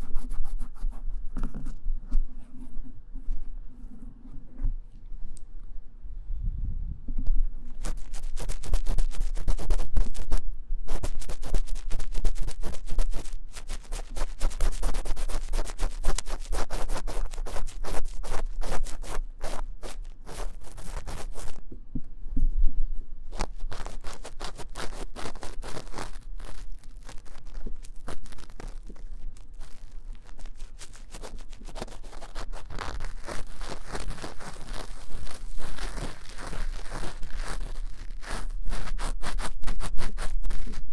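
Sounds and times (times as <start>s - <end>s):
tool scratching inside microphone ear: 0.0s - 1.8s, 7.7s - 21.6s, 23.3s - 40.9s.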